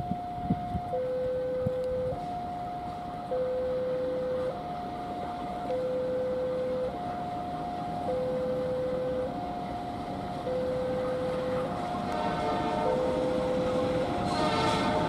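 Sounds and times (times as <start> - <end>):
diesel locomotive rumble: 0.0 - 15.0
level crossing two-tone alarm: 0.0 - 15.0.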